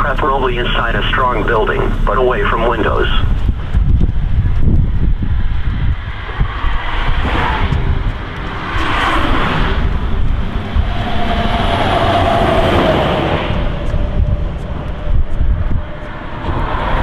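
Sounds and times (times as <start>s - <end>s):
vehicle engine drone: 0.0s - 17.0s
vehicles passing on road: 0.0s - 17.0s
wind buffeting microphone: 0.0s - 17.0s.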